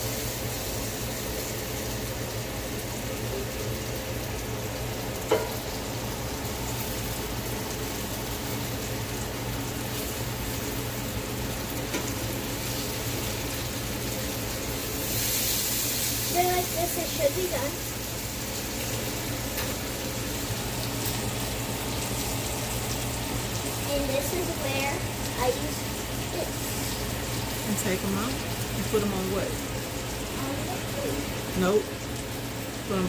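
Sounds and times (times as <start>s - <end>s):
patties sizzling in a skillet: 0.0s - 33.0s.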